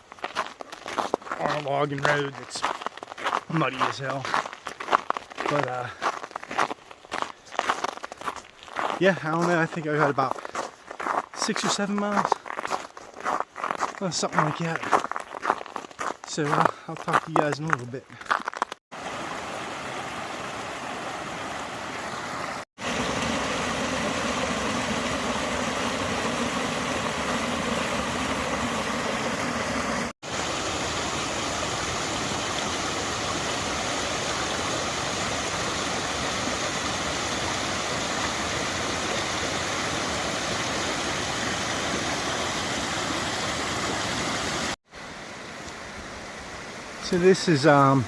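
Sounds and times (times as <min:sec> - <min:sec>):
stream rushing: 0:00.0 - 0:10.3, 0:18.4 - 0:48.0.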